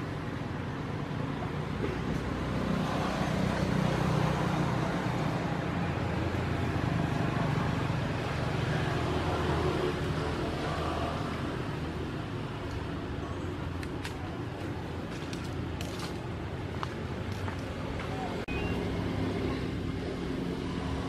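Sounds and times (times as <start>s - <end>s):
vehicle engine hum with road noise: 0.0s - 21.0s.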